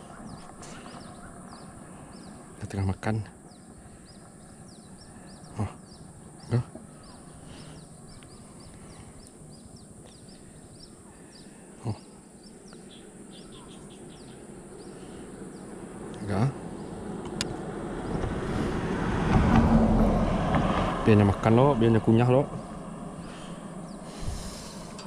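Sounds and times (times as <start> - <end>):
small birds chirping: 0.0 - 18.6, 21.2 - 25.0.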